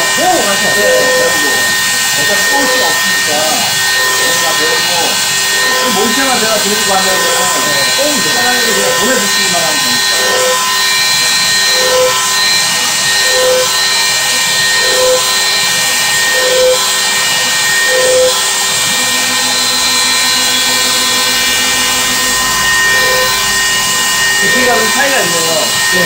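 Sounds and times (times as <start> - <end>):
lower hum: 0.0 - 26.0
router motor whine: 0.0 - 26.0.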